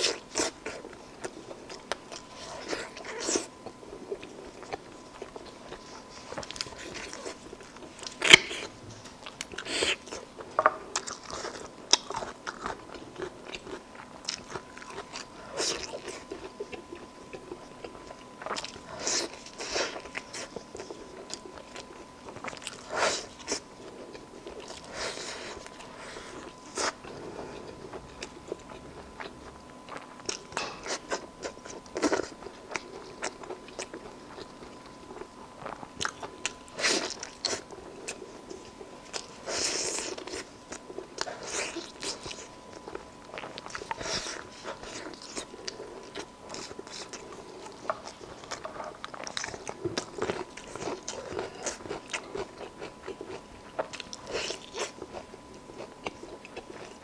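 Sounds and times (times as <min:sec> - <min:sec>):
person biting and chewing meat: 0:00.0 - 0:57.0.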